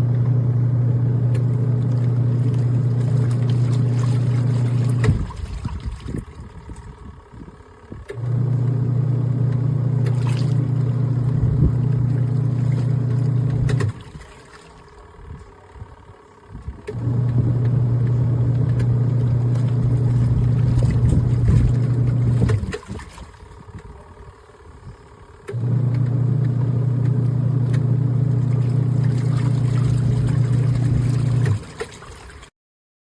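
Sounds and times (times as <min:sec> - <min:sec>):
washing machine motor humming: 0:00.0 - 0:32.5.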